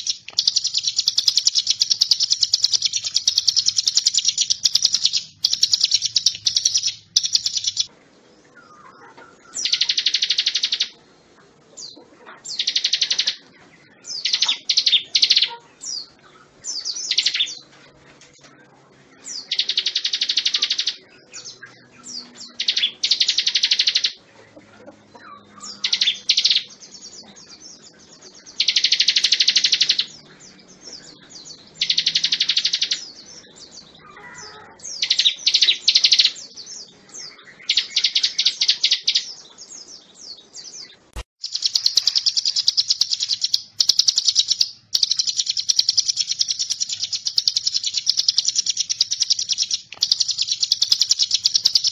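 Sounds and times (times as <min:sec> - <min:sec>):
bird singing high trills: 0:00.0 - 0:07.9, 0:08.5 - 0:11.0, 0:11.8 - 0:17.7, 0:18.6 - 0:24.2, 0:25.1 - 0:51.9.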